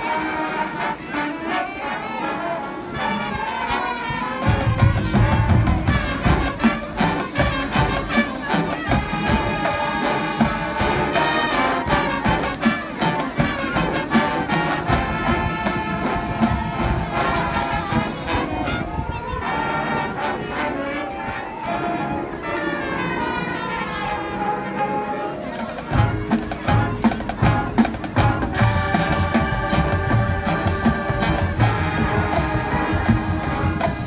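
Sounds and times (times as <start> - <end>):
marching band playing: 0.0 - 34.0
trumpets and trombones: 0.0 - 34.0.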